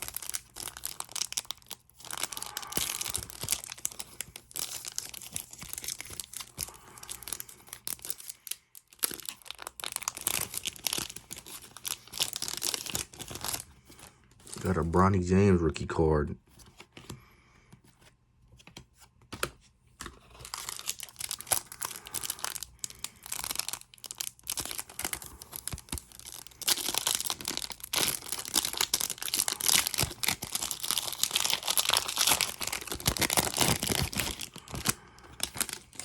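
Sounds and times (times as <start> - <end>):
card pack wrappers tearing: 0.0 - 14.8, 20.0 - 36.0.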